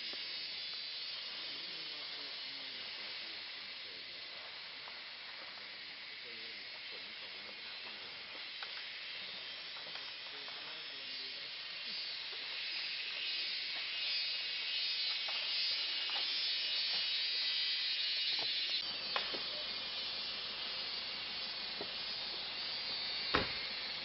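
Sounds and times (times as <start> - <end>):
insect chorus drone: 0.0 - 24.0.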